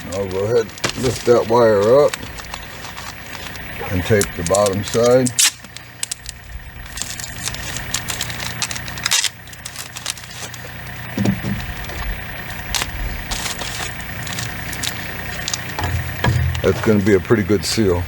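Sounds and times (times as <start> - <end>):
plastic tape crackling and tearing: 0.0 - 15.8
low steady hum: 0.0 - 18.0.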